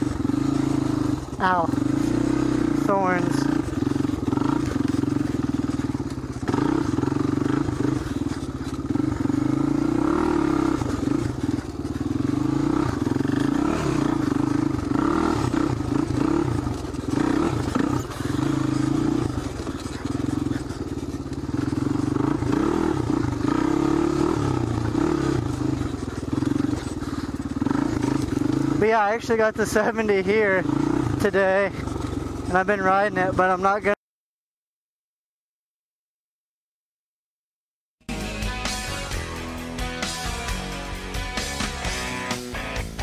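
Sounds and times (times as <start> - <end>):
motorbike engine running: 0.0 - 34.0, 38.0 - 43.0.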